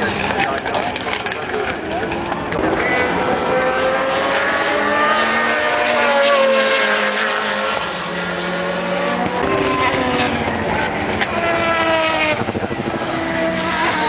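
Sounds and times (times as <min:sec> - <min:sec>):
race cars driving past: 0:00.0 - 0:14.0.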